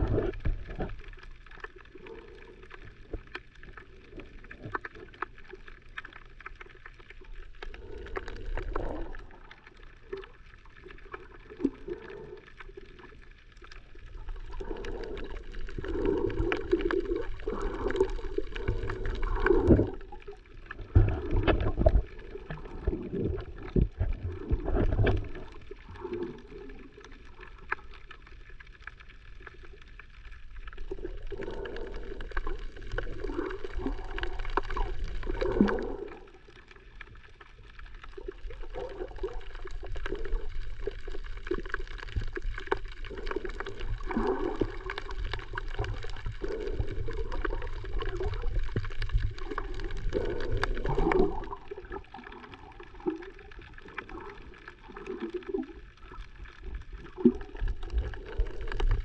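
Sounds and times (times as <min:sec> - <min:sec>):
water sloshing and gurgling: 0:00.0 - 0:59.0.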